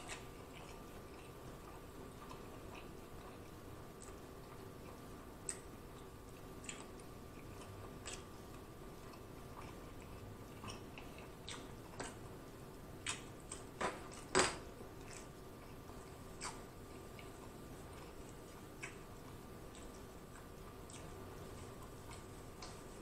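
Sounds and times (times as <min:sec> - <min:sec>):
wet chewing: 0:00.0 - 0:12.3, 0:13.0 - 0:14.3, 0:15.0 - 0:23.0.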